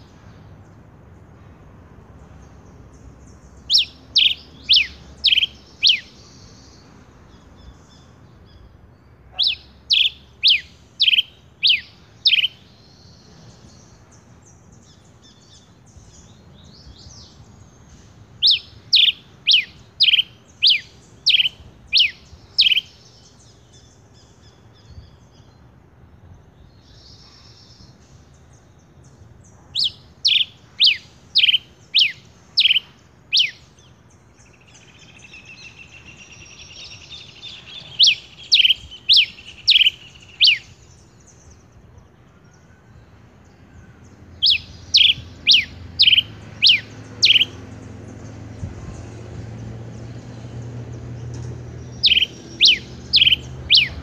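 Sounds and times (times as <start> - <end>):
soft bird twittering: 2.2 - 25.6, 26.3 - 54.0
finch singing sharp notes: 2.8 - 25.1, 26.8 - 41.7, 44.1 - 54.0.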